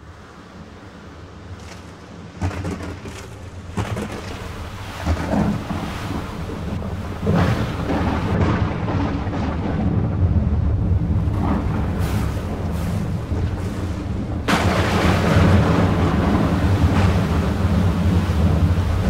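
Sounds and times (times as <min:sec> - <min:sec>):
rain: 0:00.0 - 0:19.0
thunder cracking and rumbling: 0:01.6 - 0:19.0.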